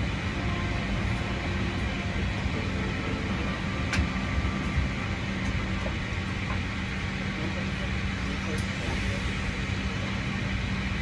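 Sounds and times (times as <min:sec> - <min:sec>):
cabin air: 0:00.0 - 0:11.0
jet engines humming: 0:00.0 - 0:11.0.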